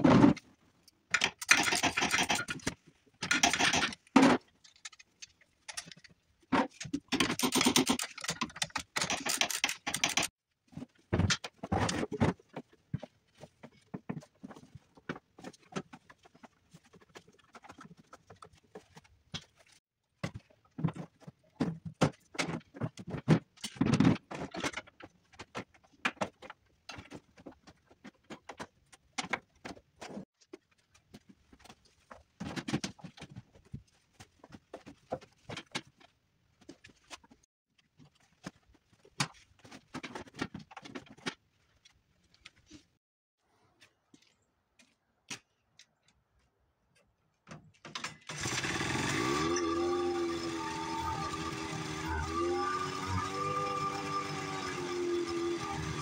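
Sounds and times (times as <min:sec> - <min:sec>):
clatter of tools and parts: 0:00.0 - 0:43.0, 0:47.0 - 0:52.4.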